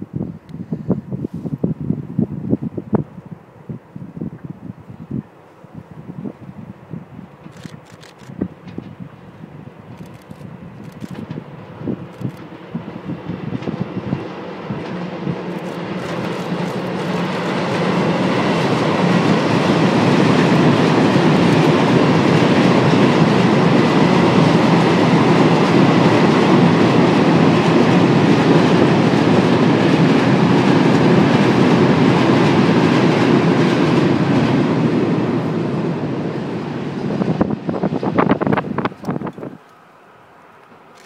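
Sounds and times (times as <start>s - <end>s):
freight train wheels rumbling: 4.6s - 41.0s.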